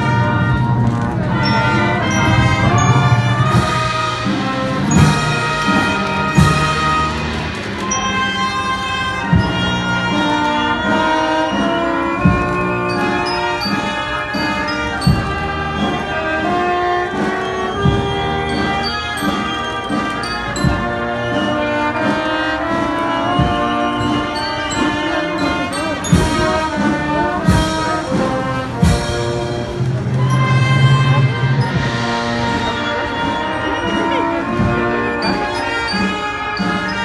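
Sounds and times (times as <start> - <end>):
brass band funeral march: 0.0 - 37.0.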